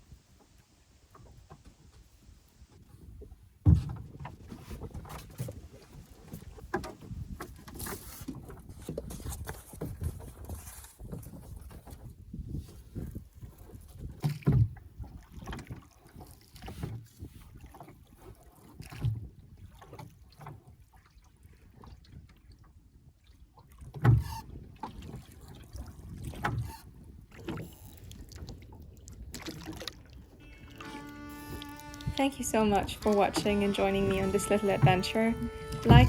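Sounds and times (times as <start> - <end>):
oar strokes knocking and splashing: 0.0 - 36.0.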